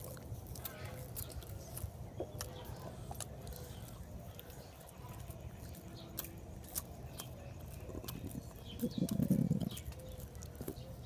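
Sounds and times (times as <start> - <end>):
lip-smacking clicks: 0.0 - 11.0
monkeys chewing: 0.0 - 11.0.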